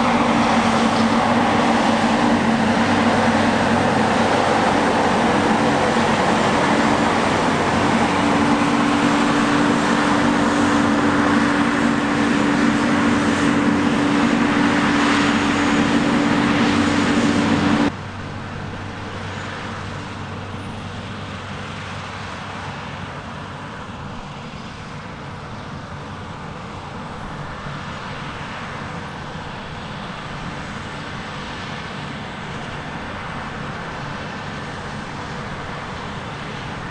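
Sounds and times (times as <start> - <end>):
diesel machinery droning: 0.0 - 36.9
distant machine rumble: 0.0 - 36.9.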